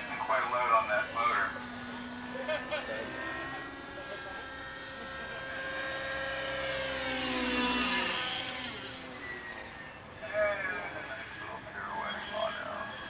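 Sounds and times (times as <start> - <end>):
model helicopter engine and rotors: 0.0 - 13.0.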